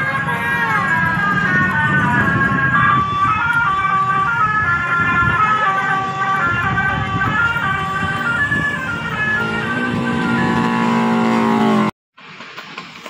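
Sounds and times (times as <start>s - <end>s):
musical horn melody: 0.0s - 11.9s
vehicle engines running: 0.0s - 13.0s.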